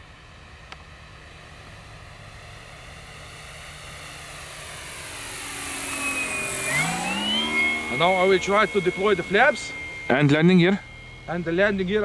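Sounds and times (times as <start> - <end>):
electric model plane motor hum: 0.0 - 12.0.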